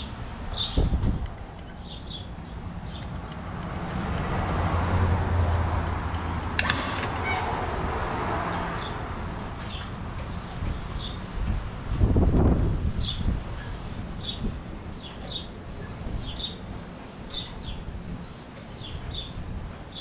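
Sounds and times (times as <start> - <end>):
vehicle engine hum passing: 0.0 - 19.7.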